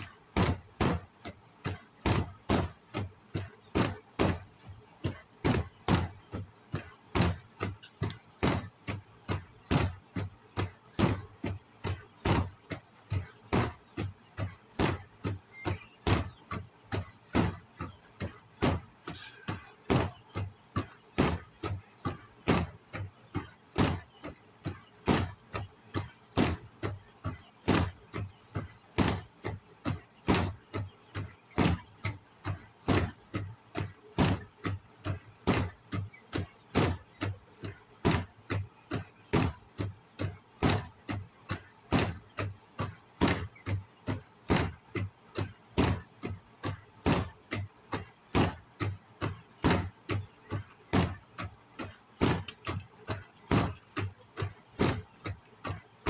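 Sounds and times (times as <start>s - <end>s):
sharp knocks: 0.0s - 56.0s.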